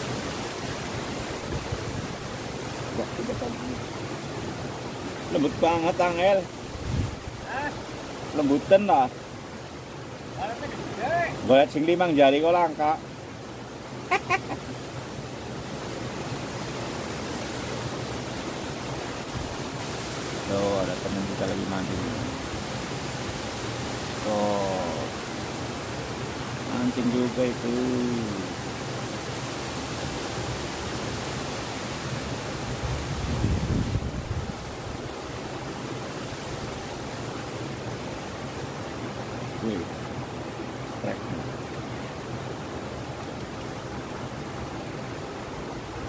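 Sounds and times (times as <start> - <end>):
stream running over stones: 0.0 - 46.0.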